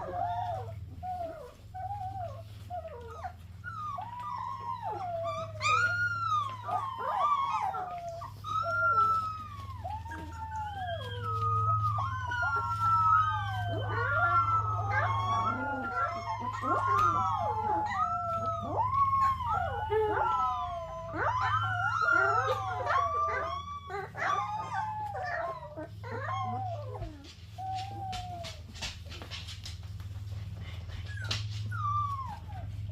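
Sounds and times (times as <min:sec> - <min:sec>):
puppy howling and whining: 0:00.0 - 0:32.9.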